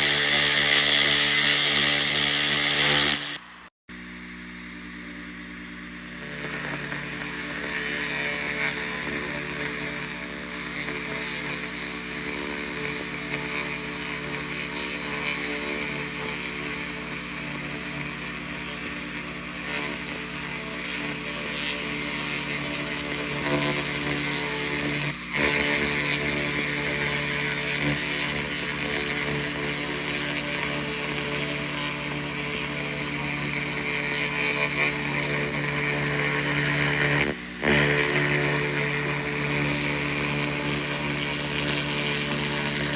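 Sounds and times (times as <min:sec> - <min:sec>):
laser rust remover humming and hissing: 0:00.0 - 0:42.9.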